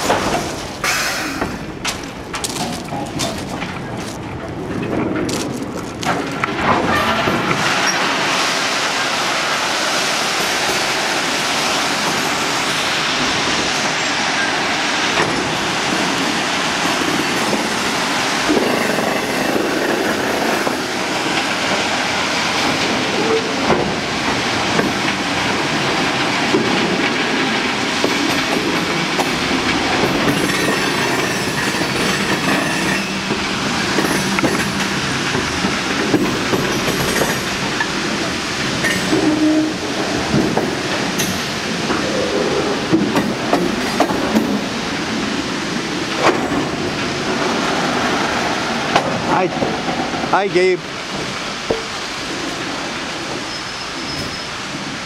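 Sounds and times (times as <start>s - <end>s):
hopper cars rolling on track: 0.0s - 55.0s.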